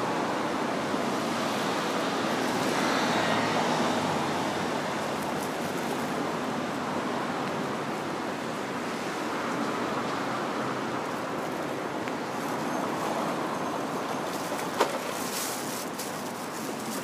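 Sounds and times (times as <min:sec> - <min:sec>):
road traffic over rails: 0:00.0 - 0:17.0.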